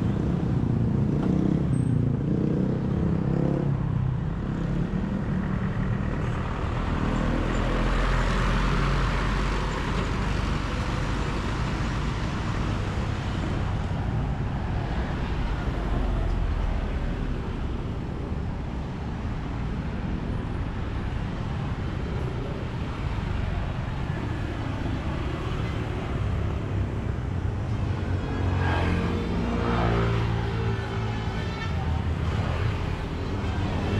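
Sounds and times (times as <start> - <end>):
vehicles passing: 0.0 - 33.9
traffic engine rumble: 3.8 - 33.9.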